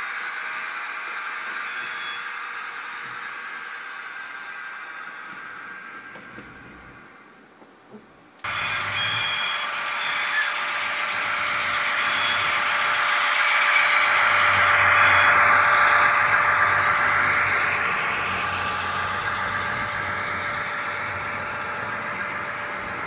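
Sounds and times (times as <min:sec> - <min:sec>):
model train running on track: 0:00.0 - 0:07.4, 0:08.4 - 0:23.0
constant motor hum: 0:00.0 - 0:23.0.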